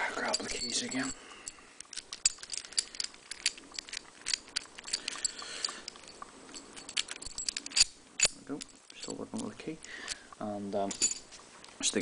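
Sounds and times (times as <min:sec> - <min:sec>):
padlock and keys clinking: 0:00.2 - 0:10.2, 0:10.9 - 0:11.4.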